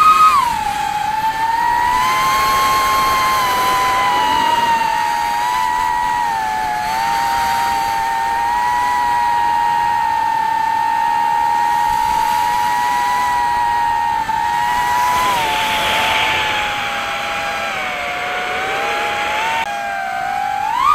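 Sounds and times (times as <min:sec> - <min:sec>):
quadcopter motors whining: 0:00.0 - 0:20.9.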